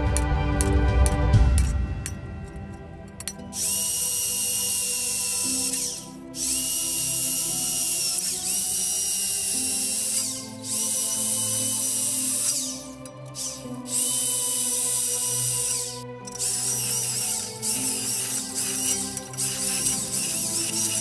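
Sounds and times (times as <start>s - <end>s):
background music: 0.0s - 21.0s
power tool whining on metal: 3.2s - 21.0s.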